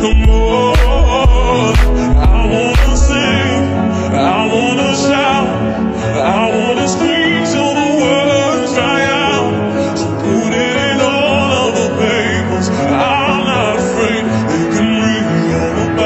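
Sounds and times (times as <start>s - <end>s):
operatic singing voice: 0.0s - 16.0s.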